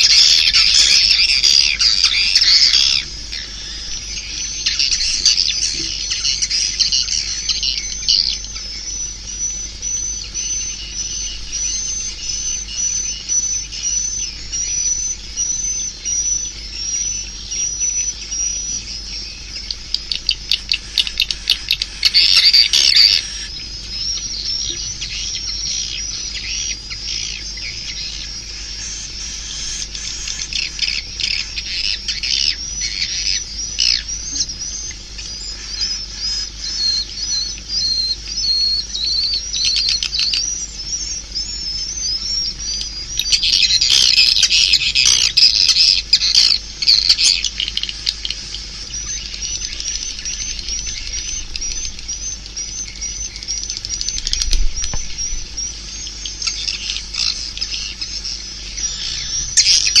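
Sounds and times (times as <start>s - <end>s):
swiftlet chirps twittering: 0.0s - 60.0s.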